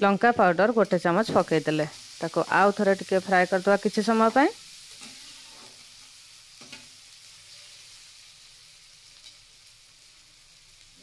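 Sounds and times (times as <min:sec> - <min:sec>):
faint frying sizzle: 0:00.0 - 0:11.0.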